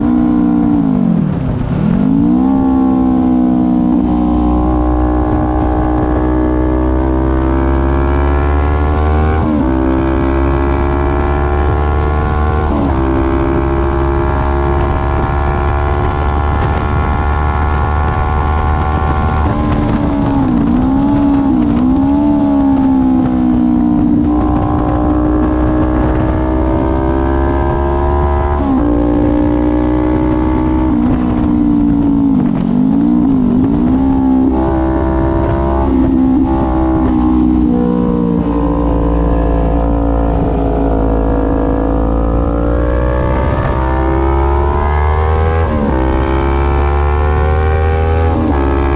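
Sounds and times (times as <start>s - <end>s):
motorcycle engine accelerating: 0.0s - 48.9s
wind noise rumble: 0.0s - 48.9s.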